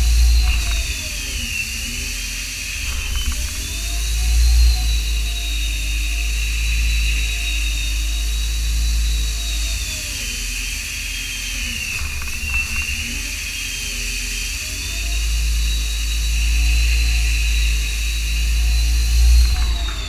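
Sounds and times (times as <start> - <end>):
high spindle whine: 0.0 - 20.0.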